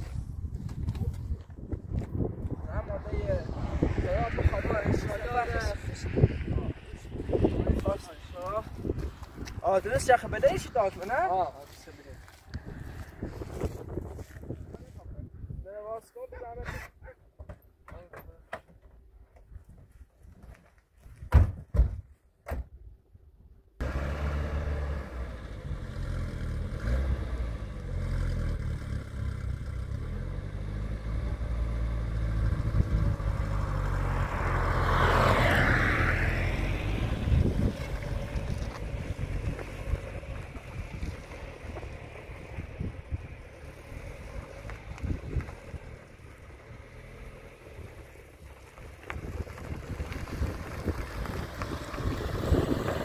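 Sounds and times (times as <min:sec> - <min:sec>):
car engine rumbling: 0:00.0 - 0:15.6, 0:23.8 - 0:53.0.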